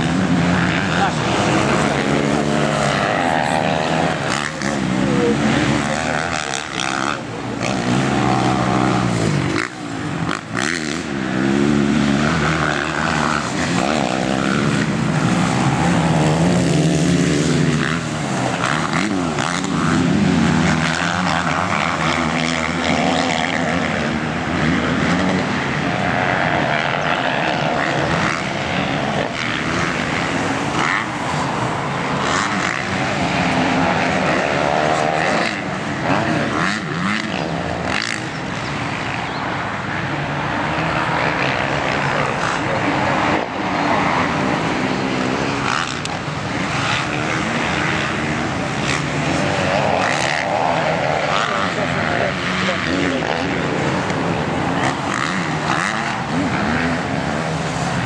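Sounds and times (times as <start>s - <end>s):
motocross bikes revving past: 0.0s - 58.0s.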